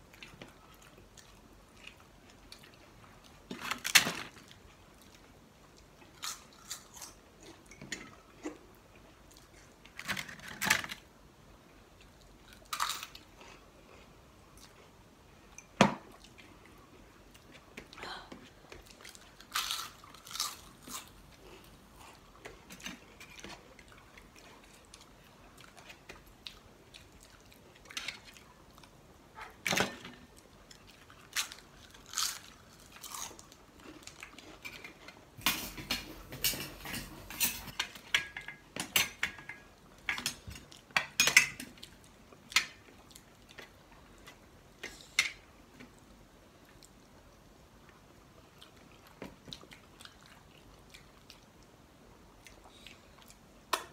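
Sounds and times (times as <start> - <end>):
people chewing food: 0.0 - 10.6, 11.6 - 29.6, 30.2 - 38.6, 41.6 - 53.9.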